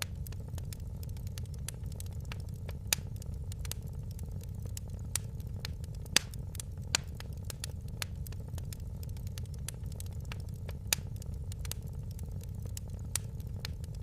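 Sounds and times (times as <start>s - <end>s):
fire crackling in a fireplace: 0.0s - 14.0s.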